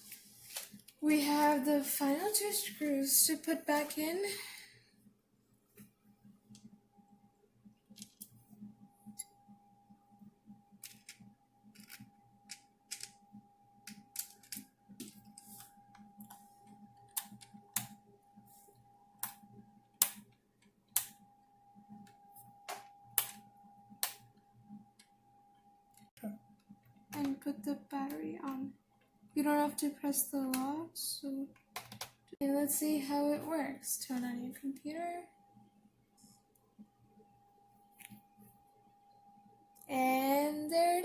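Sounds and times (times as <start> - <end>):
faint steady tone: 0.0 - 30.2, 32.3 - 41.0.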